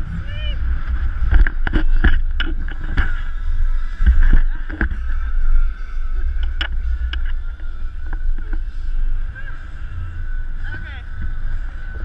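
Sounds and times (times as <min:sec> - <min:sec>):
thin high hum: 0:00.0 - 0:12.0
wind buffeting microphone: 0:00.0 - 0:12.0.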